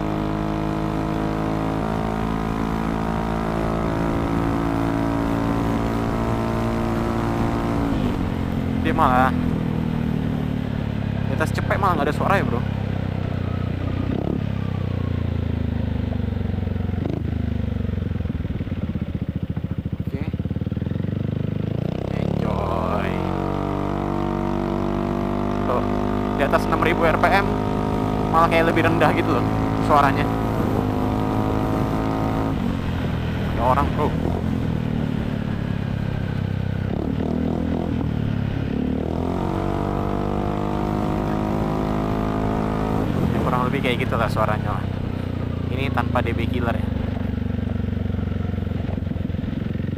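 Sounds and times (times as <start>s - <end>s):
scooter engine at speed: 0.0s - 49.9s.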